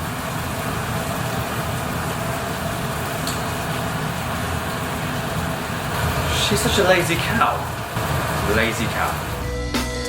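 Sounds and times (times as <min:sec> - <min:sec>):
mechanical hum with rushing hiss: 0:00.0 - 0:10.0.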